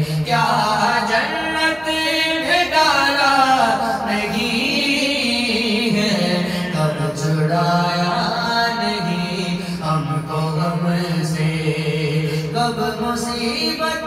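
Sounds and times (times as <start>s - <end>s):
man chanting into microphone: 0.0s - 14.0s.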